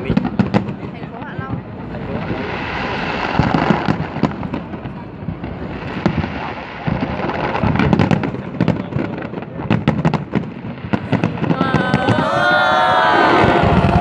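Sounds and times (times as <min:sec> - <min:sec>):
rapid firework crackling: 0:00.0 - 0:14.0.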